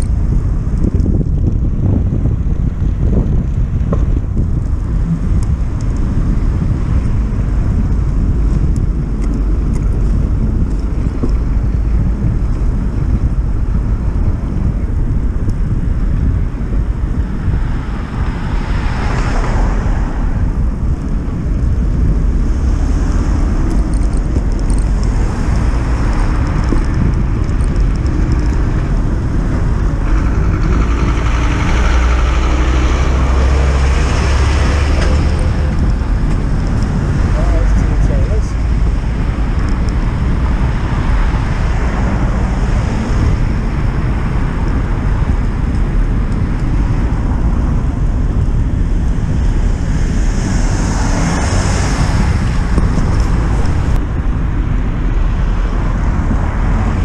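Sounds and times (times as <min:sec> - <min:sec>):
road traffic: 0:00.0 - 0:57.0
wind buffeting microphone: 0:00.0 - 0:57.0.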